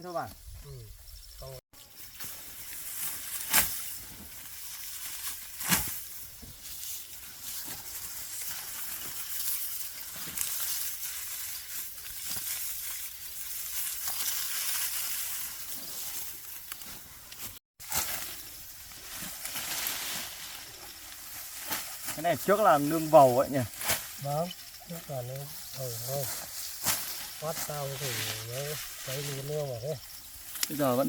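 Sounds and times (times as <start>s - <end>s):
dry rice stalks rustling: 1.9s - 31.0s.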